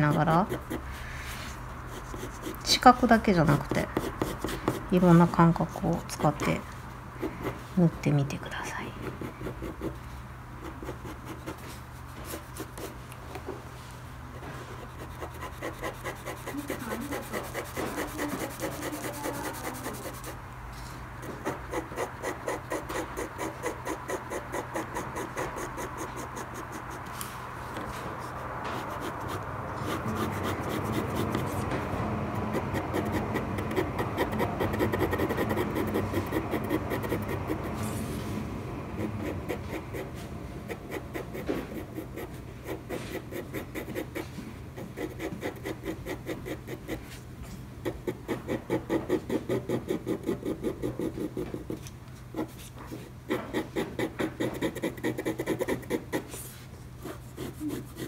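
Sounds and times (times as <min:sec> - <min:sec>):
pencil scratching on paper: 0:00.0 - 0:06.6, 0:09.0 - 0:10.0, 0:10.6 - 0:13.0, 0:14.7 - 0:20.4, 0:21.2 - 0:31.7, 0:32.4 - 0:38.0, 0:38.9 - 0:47.2, 0:47.8 - 0:58.0.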